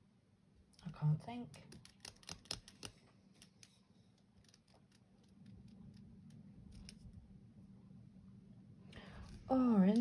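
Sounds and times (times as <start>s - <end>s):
faint low steady hum: 0.0s - 10.0s.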